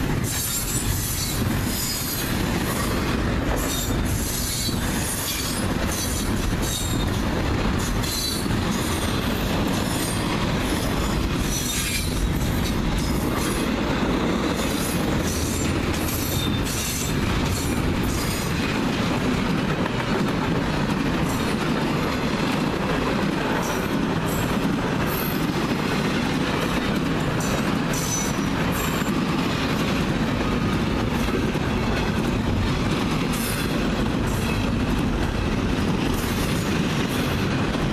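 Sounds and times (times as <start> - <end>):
clickety-clack over rail joints: 0.0 - 37.9
train wheels rumbling on rails: 0.0 - 37.9.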